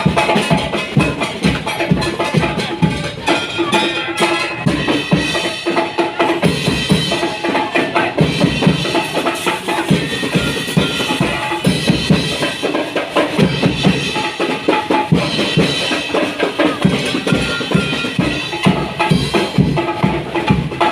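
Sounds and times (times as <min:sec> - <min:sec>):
drums playing driving beat: 0:00.0 - 0:20.9.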